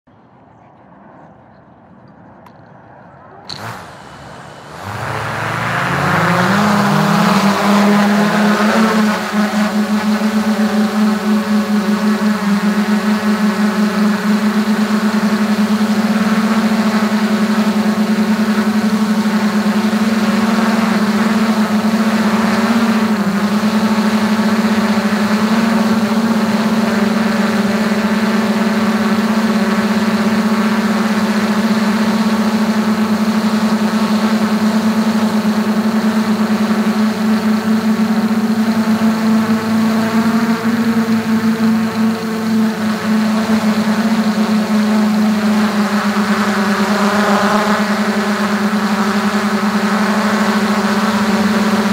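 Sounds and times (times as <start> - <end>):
drone motors humming: 0.3 - 51.9.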